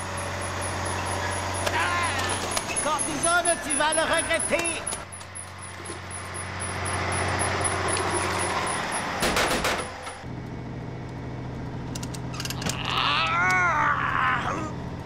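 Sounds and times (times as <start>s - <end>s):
drilling vehicle engine hum: 0.0s - 15.0s.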